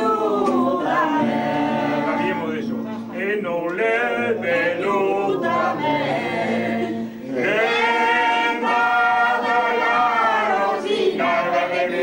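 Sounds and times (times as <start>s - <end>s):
group singing unaccompanied: 0.0s - 12.0s.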